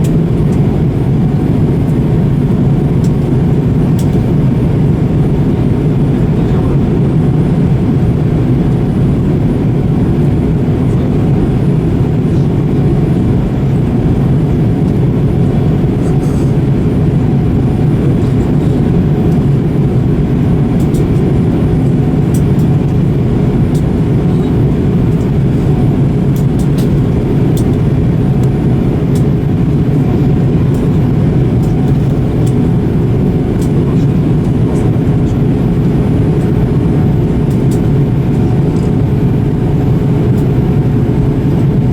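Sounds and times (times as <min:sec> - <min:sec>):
faint constant hum: 0:00.0 - 0:41.9
jet engines and airflow rumble: 0:00.0 - 0:41.9.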